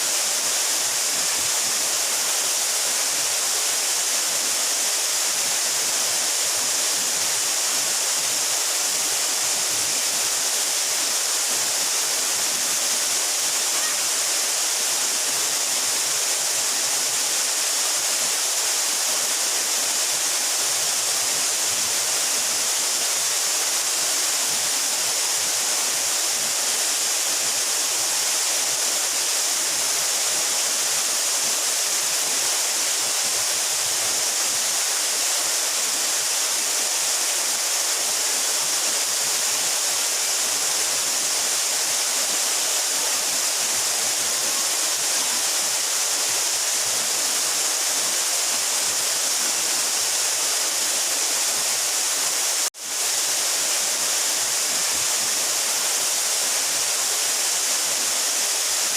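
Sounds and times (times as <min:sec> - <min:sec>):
waterfall pouring and splashing: 0:00.0 - 0:58.9.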